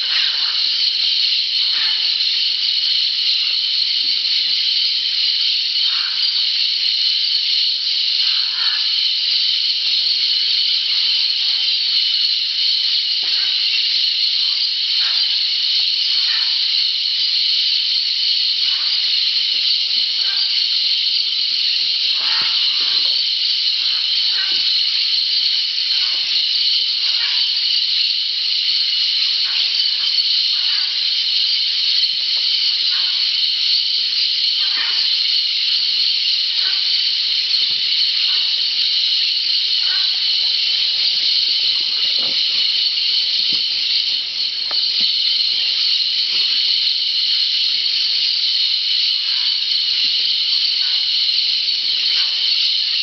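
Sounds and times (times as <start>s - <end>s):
parrots screeching chorus: 0.0s - 0.9s, 1.5s - 4.5s, 5.8s - 6.7s, 7.5s - 17.7s, 18.3s - 53.0s.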